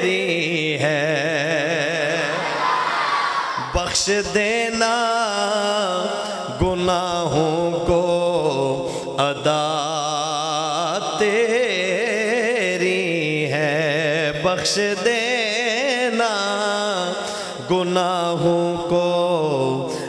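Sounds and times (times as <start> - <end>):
man chanting: 0.0 - 2.6, 3.6 - 20.0.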